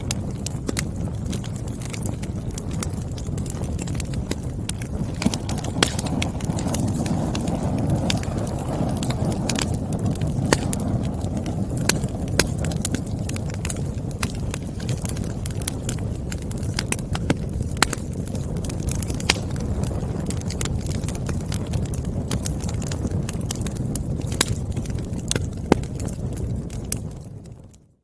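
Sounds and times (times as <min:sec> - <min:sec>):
burning logs crackling and popping: 0:00.0 - 0:28.0
low roar of flames: 0:00.0 - 0:28.0.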